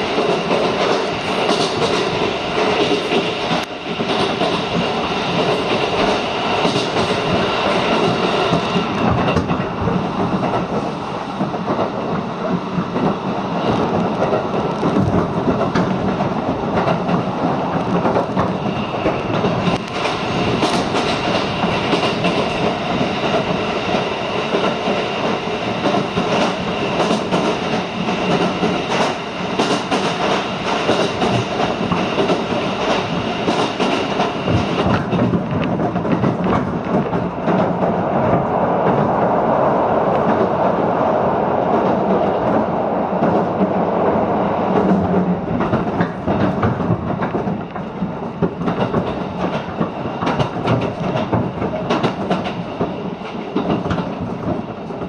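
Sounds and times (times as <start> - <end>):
wheels clicking over rail joints: 0.0 - 39.2, 44.6 - 55.0
train wheels rumbling on rails: 0.0 - 55.0.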